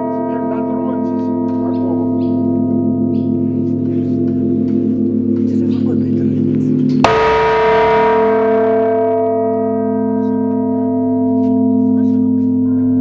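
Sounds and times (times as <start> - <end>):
bell struck and ringing: 0.0 - 5.5, 7.0 - 13.0
low bell hum: 0.0 - 13.0.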